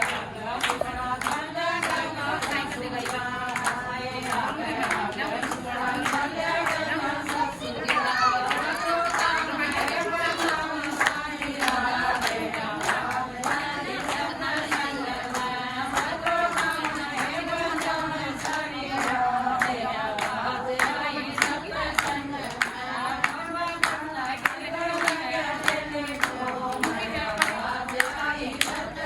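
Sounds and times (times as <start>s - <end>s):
group singing in unison: 0.0s - 29.0s
hand-clapping: 0.0s - 29.0s.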